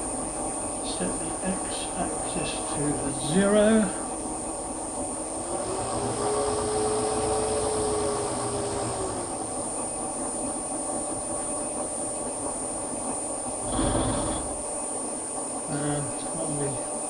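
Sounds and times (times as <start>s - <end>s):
milling machine whining: 0.0s - 17.0s
steady motor tone: 0.0s - 17.0s.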